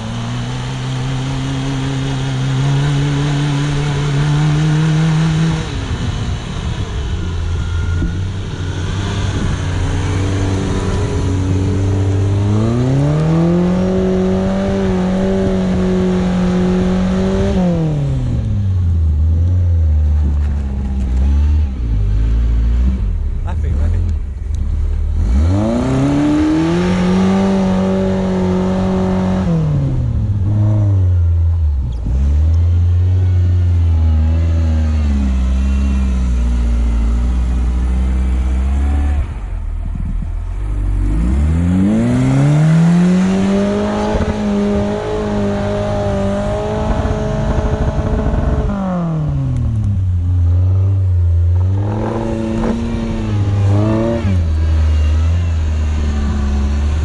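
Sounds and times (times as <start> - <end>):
car engine revving hard: 0.0 - 18.8, 24.7 - 31.3, 32.0 - 57.0.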